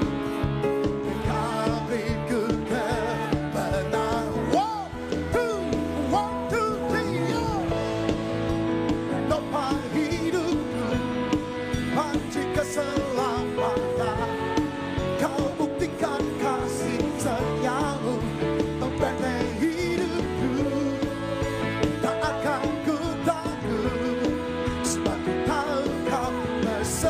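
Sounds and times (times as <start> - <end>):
worship band playing pop-rock: 0.0 - 27.0.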